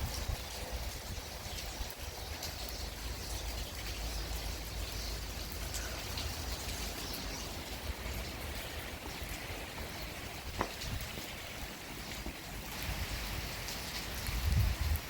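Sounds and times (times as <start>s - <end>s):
rain falling: 0.0s - 15.0s
raindrops ticking: 0.0s - 15.0s.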